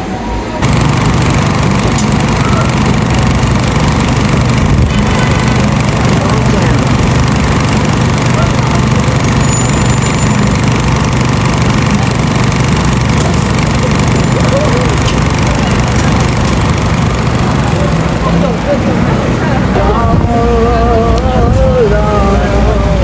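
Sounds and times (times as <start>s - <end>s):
loud mechanical drone: 0.0s - 23.0s.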